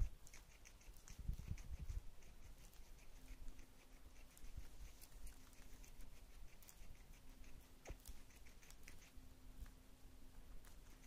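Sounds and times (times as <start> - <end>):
animals nibbling lettuce: 0.0 - 11.0.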